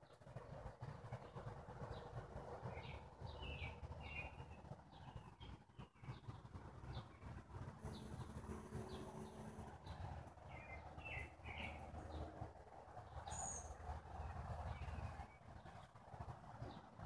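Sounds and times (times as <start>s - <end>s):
small birds chirping: 0.0s - 16.0s
low background rumble: 0.0s - 17.0s.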